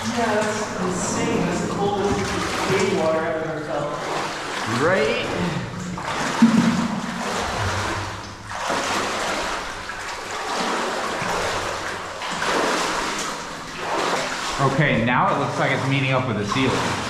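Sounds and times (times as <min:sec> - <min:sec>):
water sloshing from wading: 0:00.0 - 0:17.0.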